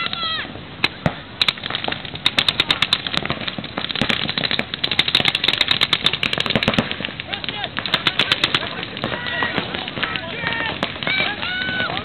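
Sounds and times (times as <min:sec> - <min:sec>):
paintball markers firing pops: 0:00.8 - 0:12.0.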